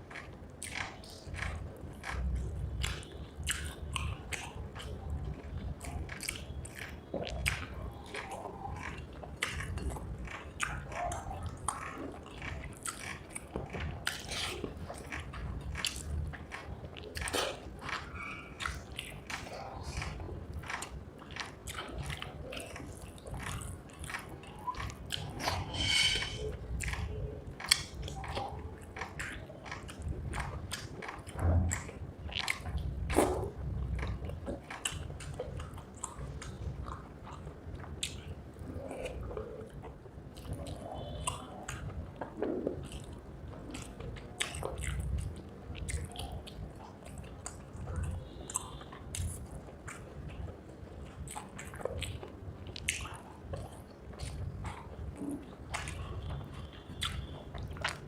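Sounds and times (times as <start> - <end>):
wet chewing and mouth smacks: 0.0 - 58.0.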